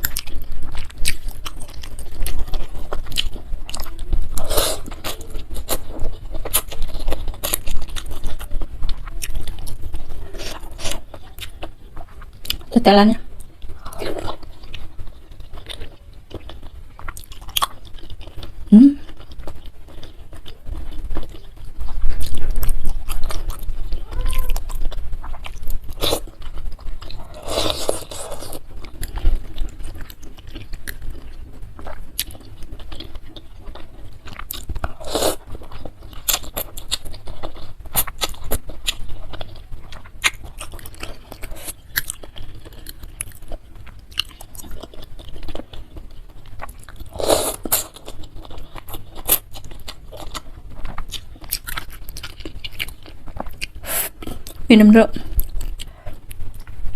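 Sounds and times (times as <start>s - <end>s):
chewing and crunching food: 0.0s - 56.9s.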